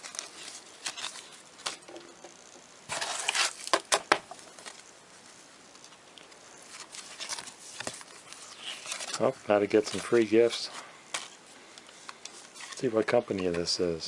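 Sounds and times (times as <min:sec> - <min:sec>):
rustle of unpacking: 0:00.0 - 0:02.0, 0:02.9 - 0:04.9, 0:05.7 - 0:13.8.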